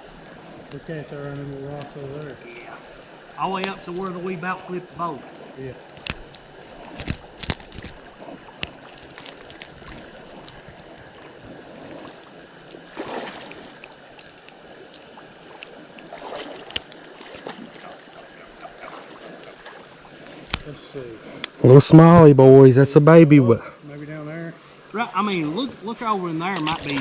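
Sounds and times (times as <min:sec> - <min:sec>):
river water running: 0:00.0 - 0:27.0.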